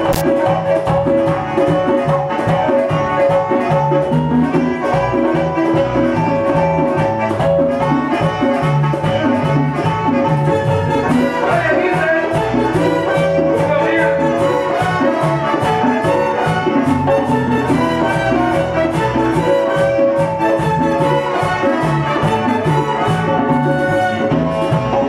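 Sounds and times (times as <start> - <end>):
salsa orchestra playing: 0.0 - 25.0.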